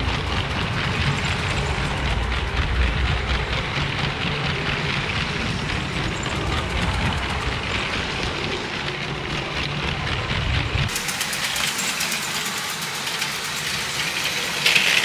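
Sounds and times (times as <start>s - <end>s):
toy train running on plastic track: 0.0s - 15.0s.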